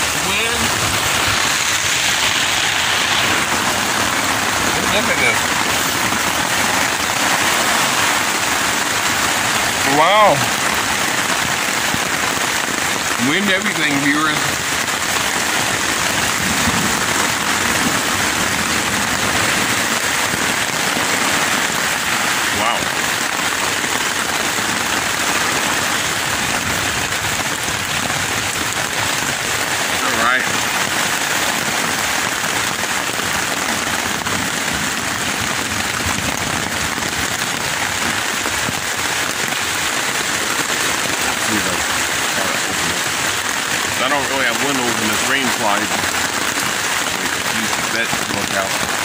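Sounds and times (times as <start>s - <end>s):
rain on a tent: 0.0s - 49.0s.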